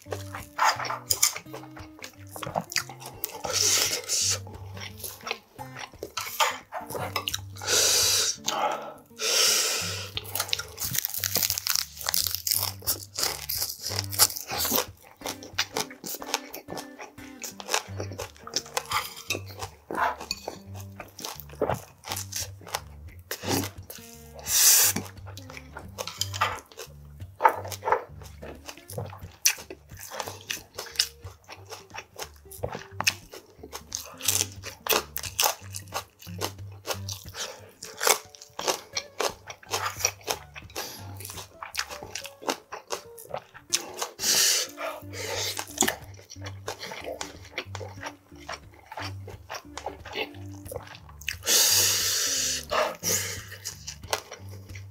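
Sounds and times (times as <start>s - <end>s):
chewing with wet crackles: 0.0s - 7.7s, 8.3s - 54.9s
faint background music: 0.0s - 54.9s
crunching of fresh leaves: 10.1s - 54.9s.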